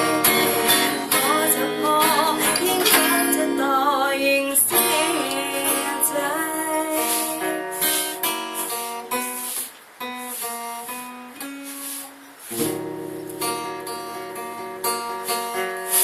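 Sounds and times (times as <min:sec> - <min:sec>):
acoustic guitar ballad: 0:00.0 - 0:16.0.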